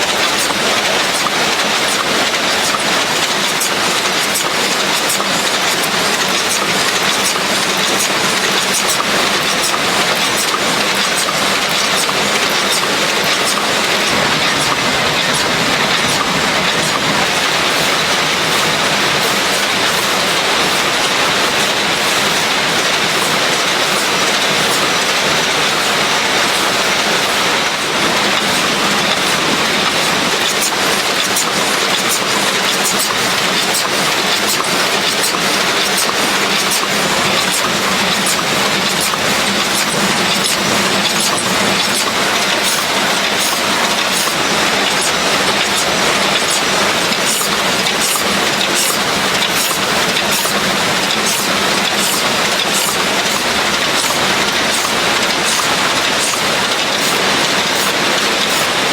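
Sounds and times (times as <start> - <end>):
factory machinery din: 0.0 - 58.9
regular machine clicking: 0.0 - 58.9.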